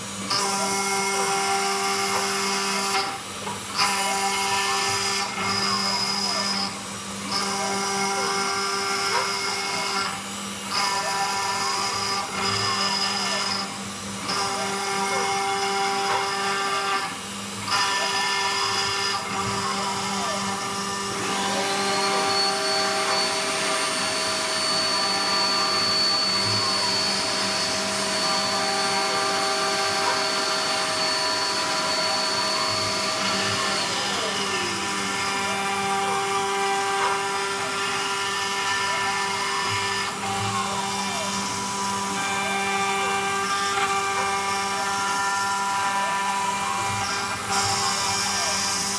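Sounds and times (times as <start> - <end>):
router cutting wood: 0.0 - 48.9
router spindle whine: 0.0 - 48.9
stepper motors whirring: 0.0 - 48.9
vacuum cleaner whine: 0.0 - 48.9.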